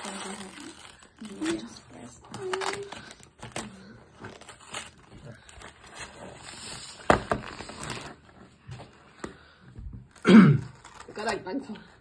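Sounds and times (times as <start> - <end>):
wrapping paper crinkling and tearing: 0.0 - 9.1, 10.1 - 12.0.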